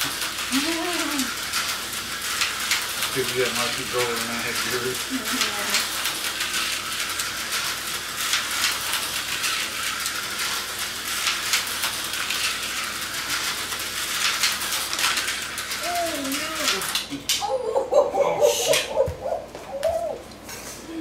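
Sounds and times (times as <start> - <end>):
slot cars whirring and clicking: 0.0 - 17.5.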